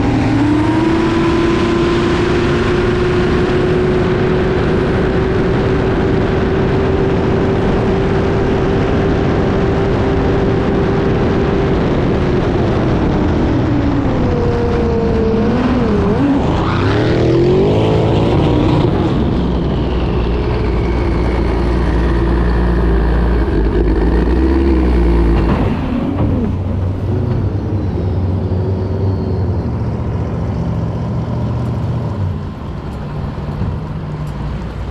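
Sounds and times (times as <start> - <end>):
powerboat engine running flat out: 0.0 - 34.8.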